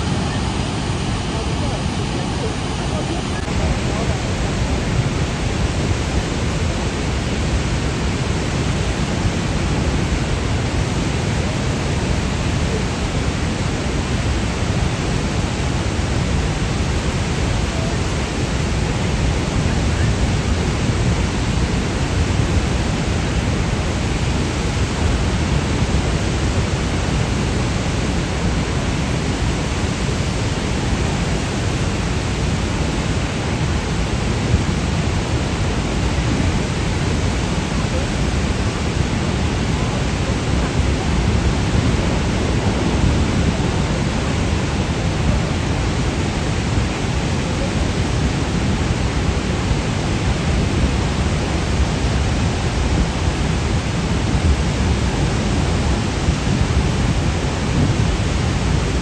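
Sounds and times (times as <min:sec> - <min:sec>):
waterfall roaring: 0:00.0 - 0:59.0.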